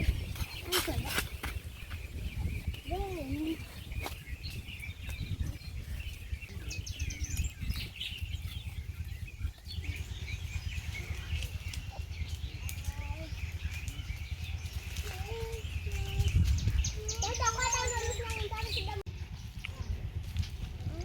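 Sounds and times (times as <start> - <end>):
birds chirping and twittering: 0.0 - 21.0
steady low rumble: 0.0 - 21.0.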